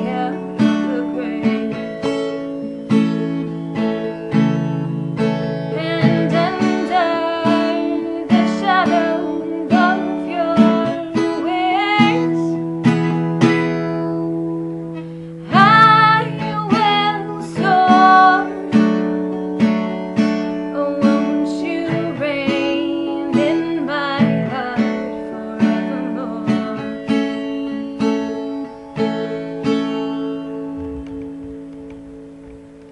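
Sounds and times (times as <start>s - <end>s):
acoustic guitar strumming: 0.0s - 32.9s.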